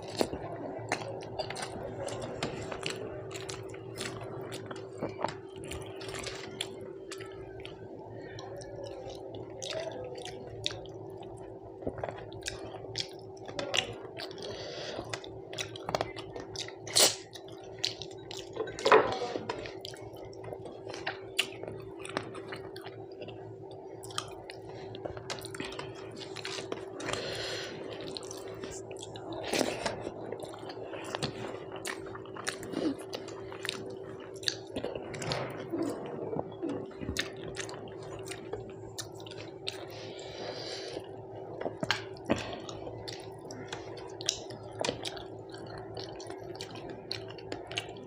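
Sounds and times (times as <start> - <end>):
chewing and wet mouth sounds: 0.0 - 48.0
steady hum: 0.0 - 48.0.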